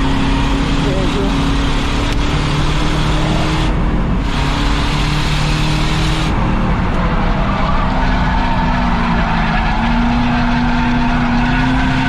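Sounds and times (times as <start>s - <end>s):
race car engine running hard: 0.0s - 12.0s
tyre and road noise: 0.0s - 12.0s.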